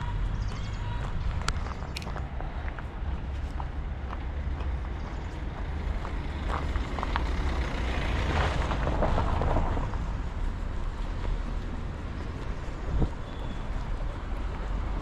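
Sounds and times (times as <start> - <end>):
steady low rumble: 0.0 - 15.0
vehicle passing by: 1.2 - 15.0.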